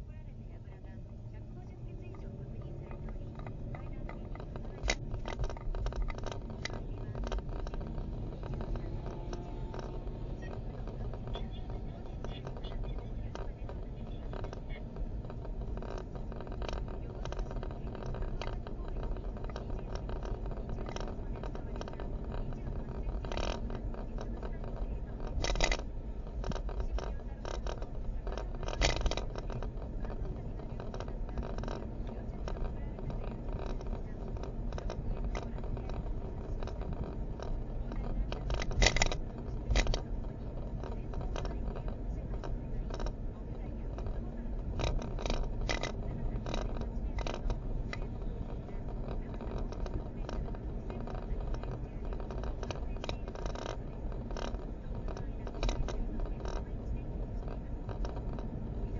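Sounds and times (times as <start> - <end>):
dashcam clicking and rattling: 0.0 - 58.9
road and engine rumble in car: 0.0 - 58.9.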